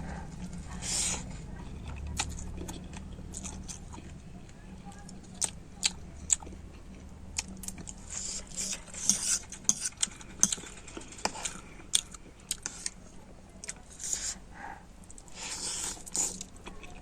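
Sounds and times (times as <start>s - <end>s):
chewing noodles: 0.0s - 17.0s.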